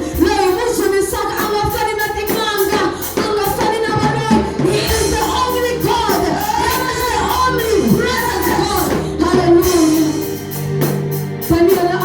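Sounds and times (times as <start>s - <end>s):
gospel worship singing: 0.0s - 12.0s
steady beat: 0.0s - 12.0s.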